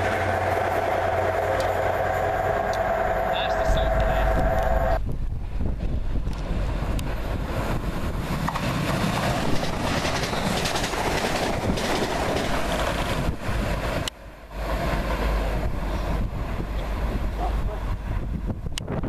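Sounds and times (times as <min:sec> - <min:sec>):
passenger train rushing past: 0:00.0 - 0:19.0.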